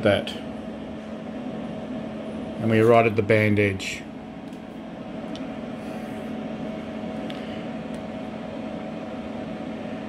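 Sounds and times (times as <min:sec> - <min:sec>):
radio equipment hum and fan noise: 0:00.0 - 0:10.0.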